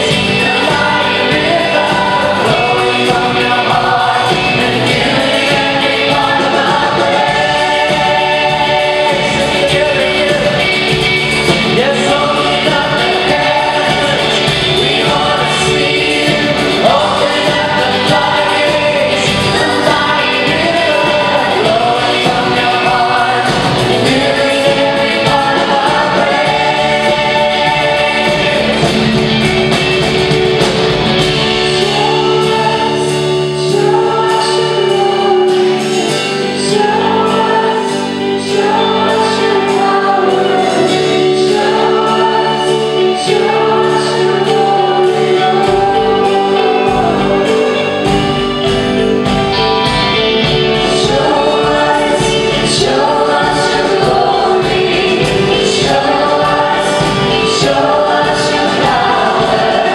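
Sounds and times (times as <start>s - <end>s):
band playing worship song: 0.0s - 59.9s
group singing in unison: 0.0s - 59.9s.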